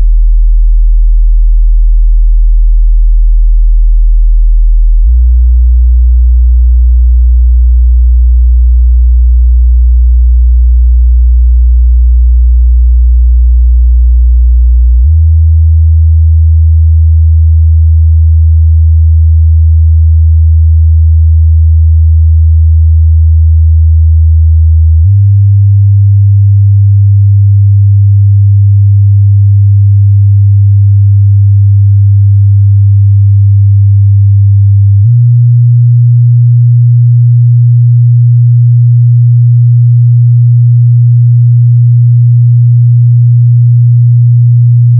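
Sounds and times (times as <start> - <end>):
low sine test tone: 0.0 - 44.9.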